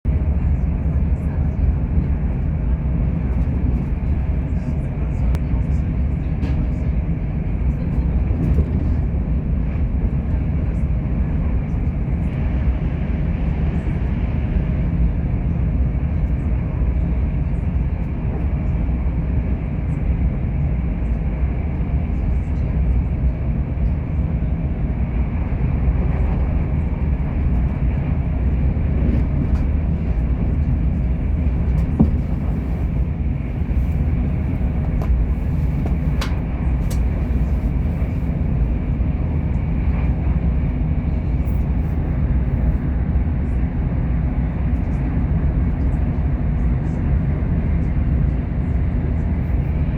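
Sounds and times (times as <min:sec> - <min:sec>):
train wheels rumbling on rail: 0:00.1 - 0:49.9.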